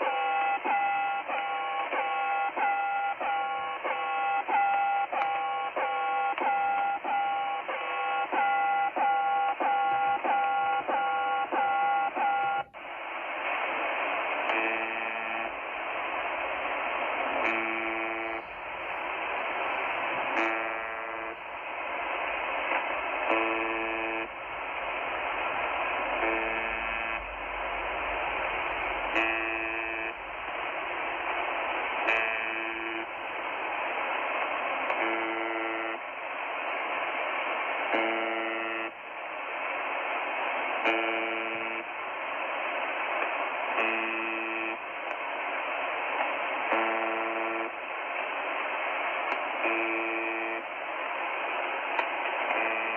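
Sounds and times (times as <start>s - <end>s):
radio band hiss: 0.0s - 52.9s.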